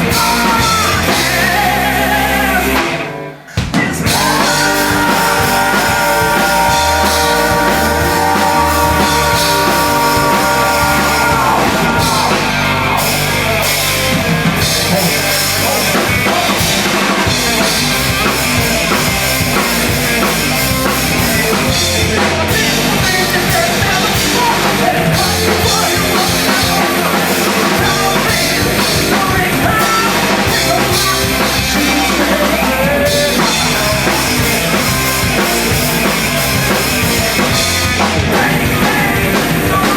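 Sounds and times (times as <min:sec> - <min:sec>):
rock band playing distorted: 0:00.0 - 0:39.9.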